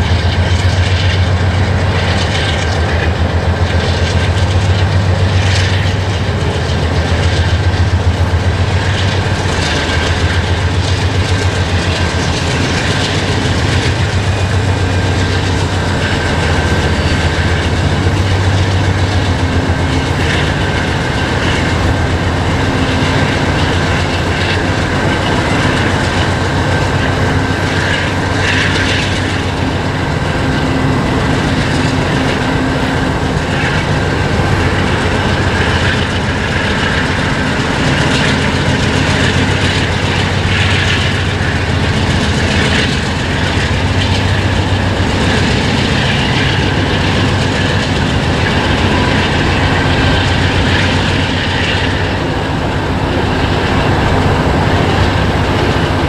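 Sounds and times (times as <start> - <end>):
diesel locomotive drone: 0.0 - 56.0
freight cars rumble and clickety-clack: 0.0 - 56.0.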